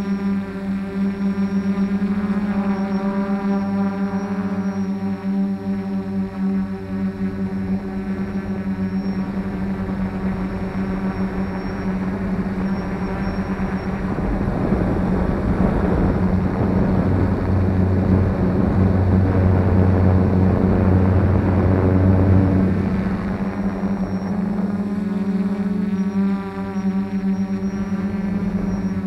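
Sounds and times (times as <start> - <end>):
quadcopter propellers droning: 0.0 - 29.0.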